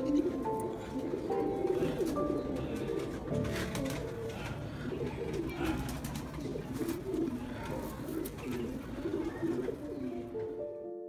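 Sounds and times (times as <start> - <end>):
pigeon cooing: 0.0 - 10.6.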